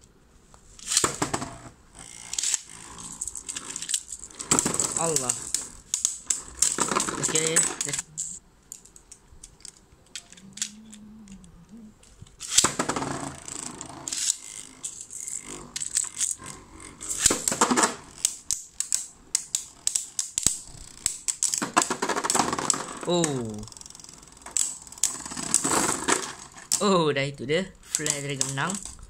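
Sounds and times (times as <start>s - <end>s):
spinning tops clattering: 0.8s - 10.8s, 12.4s - 26.8s, 27.8s - 29.0s.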